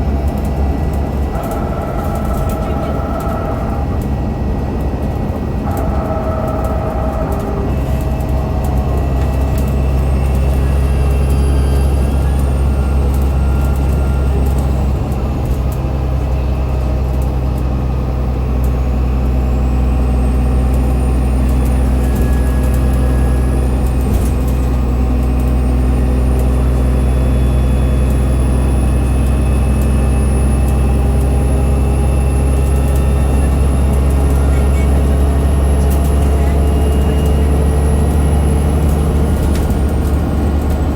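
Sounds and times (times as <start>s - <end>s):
bus diesel engine drone: 0.0s - 40.9s
faint high axle whine: 0.0s - 40.9s.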